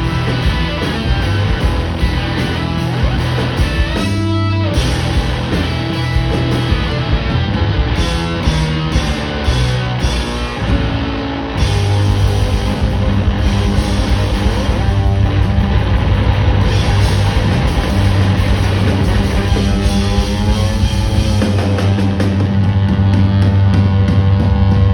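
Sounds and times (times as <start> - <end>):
blues-rock band playing: 0.0 - 24.9
drums: 0.0 - 24.9
electric guitar notes: 0.0 - 24.9.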